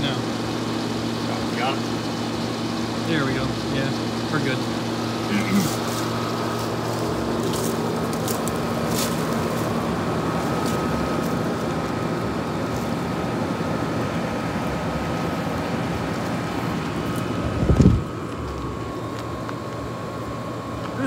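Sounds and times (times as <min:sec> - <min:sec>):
air conditioner running: 0:00.0 - 0:21.0.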